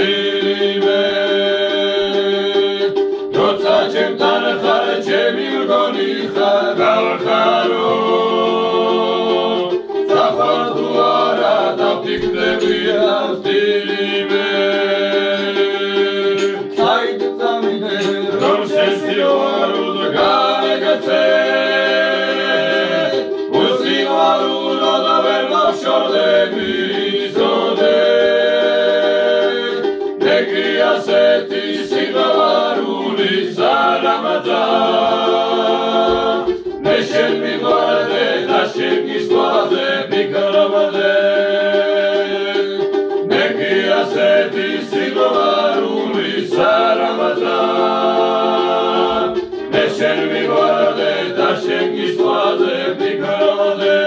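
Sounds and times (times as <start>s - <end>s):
men singing in harmony: 0.0s - 54.0s.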